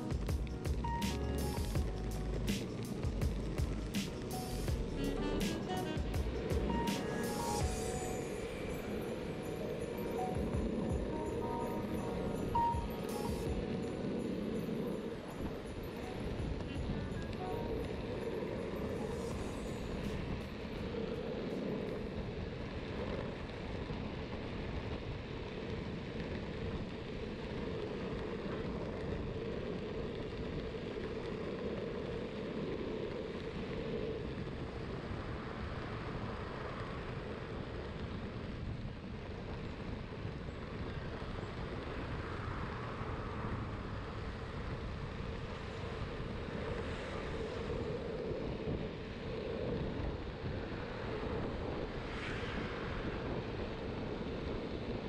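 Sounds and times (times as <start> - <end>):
board wheels rumbling on road: 0.0 - 55.0
wind noise on microphone: 0.0 - 55.0.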